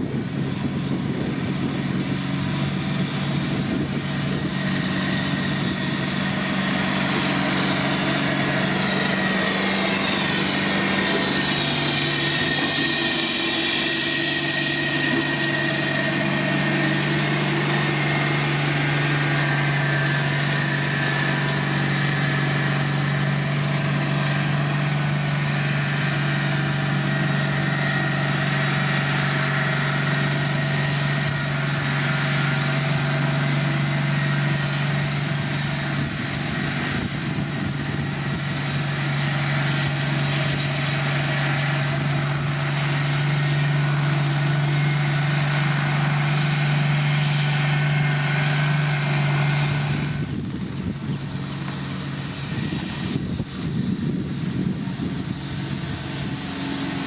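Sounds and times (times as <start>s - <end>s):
diesel engine of heavy machinery: 0.0s - 57.0s.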